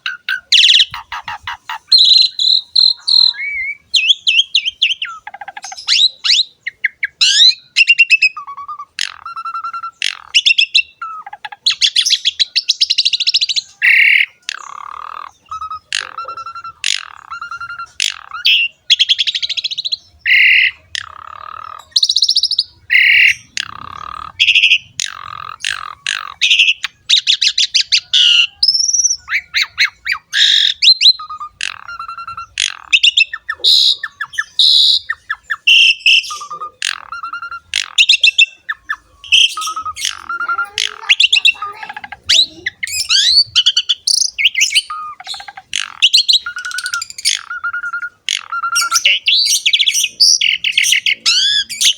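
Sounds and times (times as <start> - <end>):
starling singing: 0.0 - 51.9.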